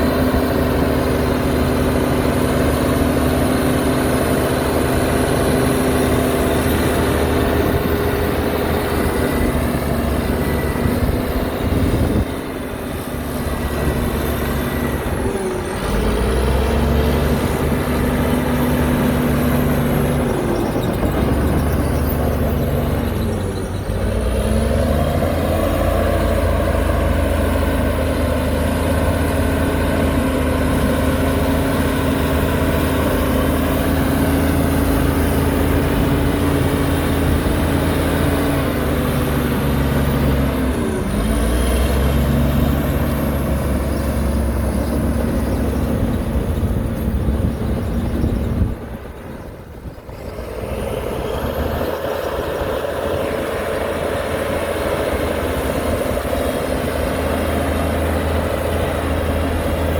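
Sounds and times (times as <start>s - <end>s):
heavy diesel engine lugging: 0.0s - 59.9s.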